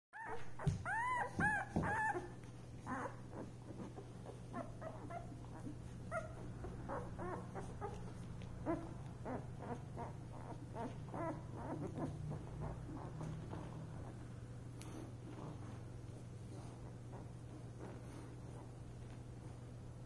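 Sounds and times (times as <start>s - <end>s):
puppies whimpering and squeaking: 0.2s - 14.5s, 15.3s - 19.2s
steady low hum: 0.5s - 20.0s.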